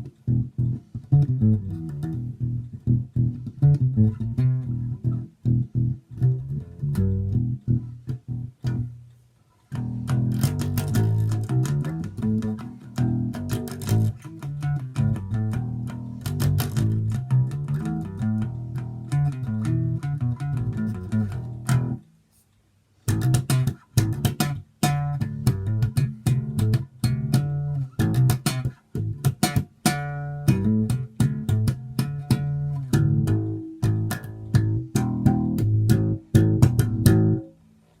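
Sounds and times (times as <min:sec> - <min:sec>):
electric bass plucked notes: 0:00.0 - 0:09.1, 0:09.7 - 0:22.0, 0:23.0 - 0:37.6.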